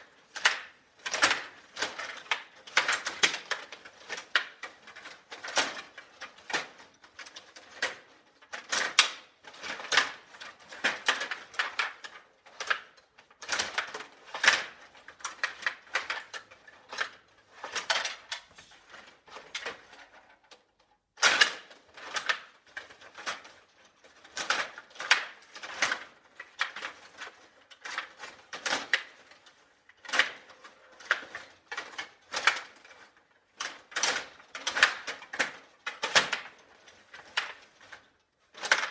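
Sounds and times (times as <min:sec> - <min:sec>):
table hockey plastic clatter: 0:00.2 - 0:38.9.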